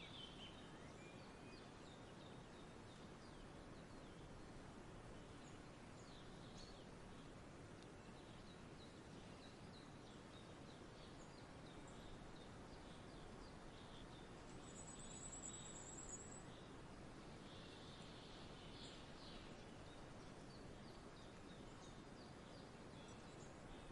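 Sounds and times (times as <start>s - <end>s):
faint small birds chirping: 0.0s - 23.9s
low background hiss: 0.0s - 23.9s.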